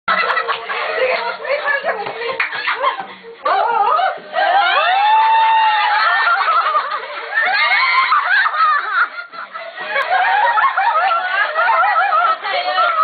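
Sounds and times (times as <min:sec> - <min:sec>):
young women laughing: 0:00.1 - 0:13.0.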